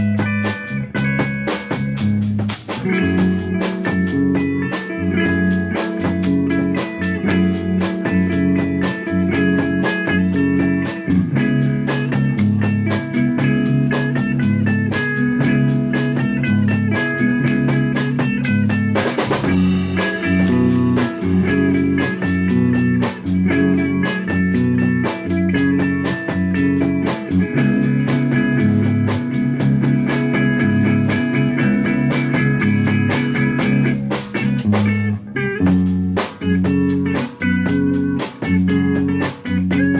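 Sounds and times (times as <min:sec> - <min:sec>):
rock band instrumental: 0:00.0 - 0:39.9.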